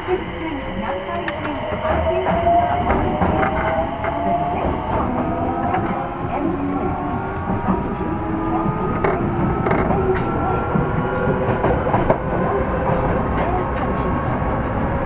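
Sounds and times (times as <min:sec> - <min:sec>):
wheels rumbling on rail: 0:00.0 - 0:15.0
rail-joint clicks: 0:00.4 - 0:14.1.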